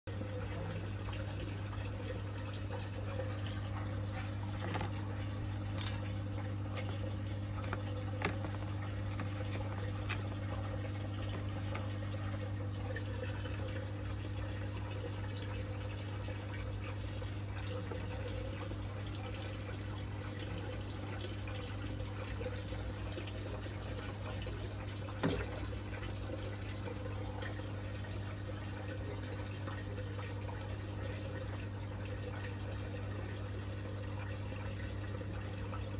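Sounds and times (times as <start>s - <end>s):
aquarium water bubbling: 0.1s - 35.9s
tank pump humming: 0.1s - 35.9s.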